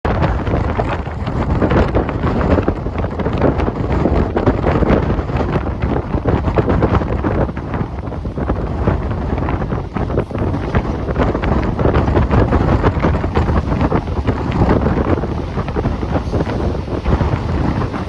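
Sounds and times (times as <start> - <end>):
wind buffeting microphone: 0.0 - 18.0
train rumble and rattle: 0.1 - 18.0.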